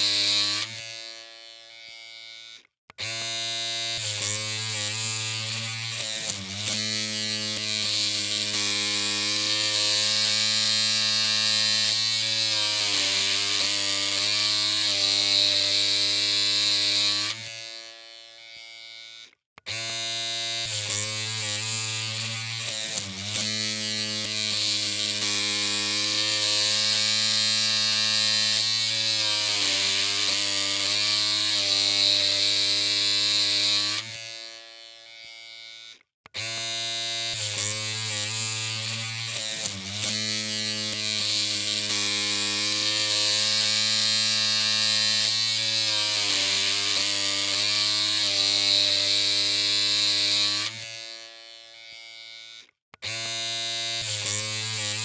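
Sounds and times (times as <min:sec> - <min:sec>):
electric hair clippers buzzing: 0:00.0 - 0:55.0.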